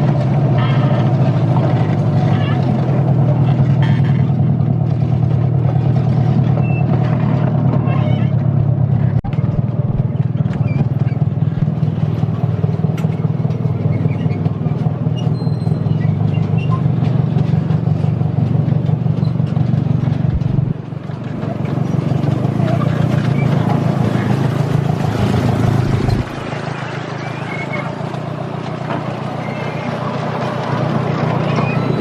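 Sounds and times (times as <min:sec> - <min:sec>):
small diesel engine running: 0:00.0 - 0:32.0.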